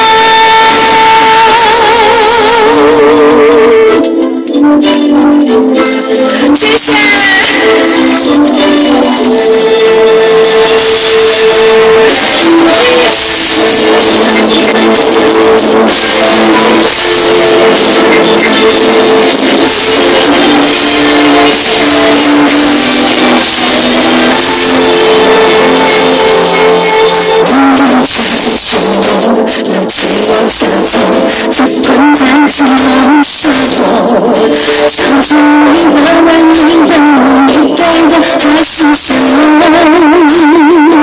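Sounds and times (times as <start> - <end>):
live band playing pop ballad: 0.0 - 41.0.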